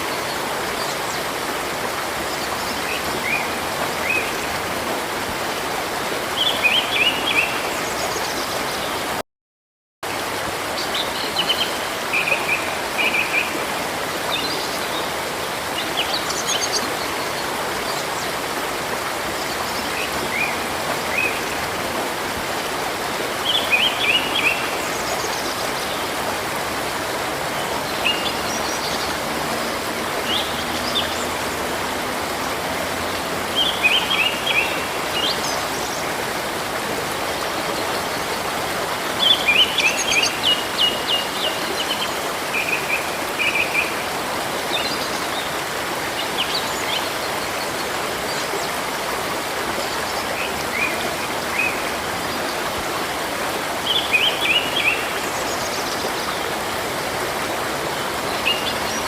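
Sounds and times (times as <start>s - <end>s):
river water rushing: 0.0s - 9.2s, 10.0s - 59.0s.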